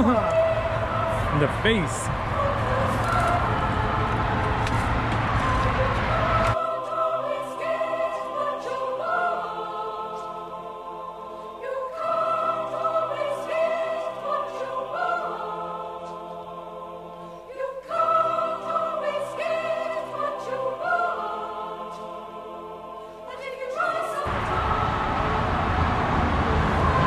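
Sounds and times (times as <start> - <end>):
choir singing held chords: 0.0 - 27.0.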